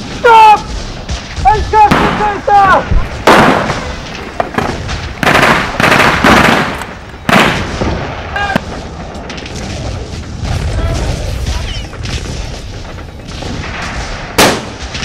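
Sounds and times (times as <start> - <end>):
blank gunshots with echo: 0.0 - 15.0.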